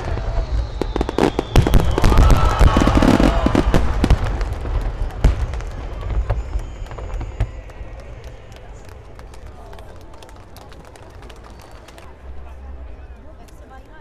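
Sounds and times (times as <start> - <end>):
fireworks crackling and popping: 0.0 - 12.2.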